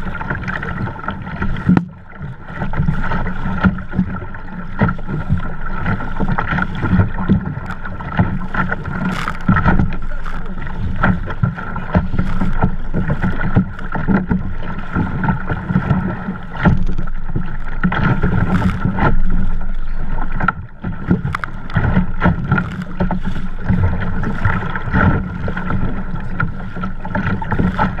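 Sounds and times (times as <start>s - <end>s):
sea water splashing against kayak: 0.0s - 28.0s.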